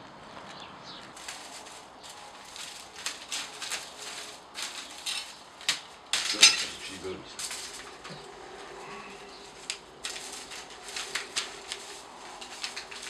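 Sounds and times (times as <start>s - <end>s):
dry straw rustling and swishing: 1.0s - 13.0s.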